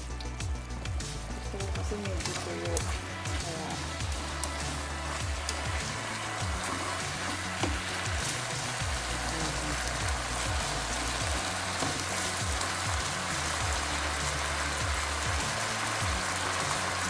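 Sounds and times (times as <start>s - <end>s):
background music with deep bass beat: 0.0s - 17.0s
meat sizzling in a wok: 0.0s - 17.0s.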